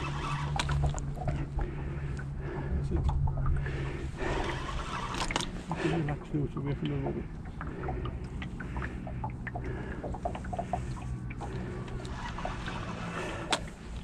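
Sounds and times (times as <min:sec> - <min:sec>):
low steady hum: 0:00.0 - 0:14.0
water lapping against boat: 0:00.0 - 0:14.0.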